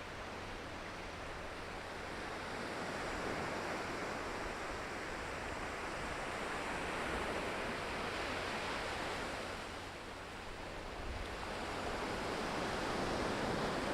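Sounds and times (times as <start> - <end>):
ocean surf washing on shore: 0.0 - 13.9.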